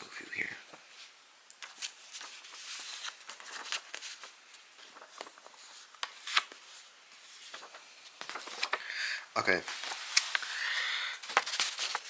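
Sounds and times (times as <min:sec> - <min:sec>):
paper and cloth rustling: 0:00.8 - 0:08.9, 0:09.5 - 0:10.5, 0:11.2 - 0:12.0.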